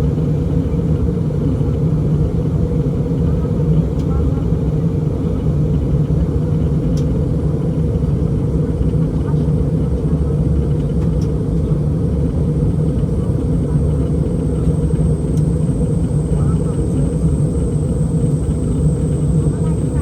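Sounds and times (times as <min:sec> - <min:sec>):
jet engine rumble: 0:00.4 - 0:20.0.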